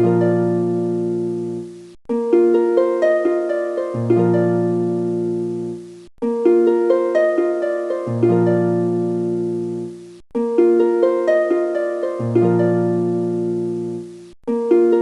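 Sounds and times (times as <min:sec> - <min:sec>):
looping picked background music: 0:00.0 - 0:15.0.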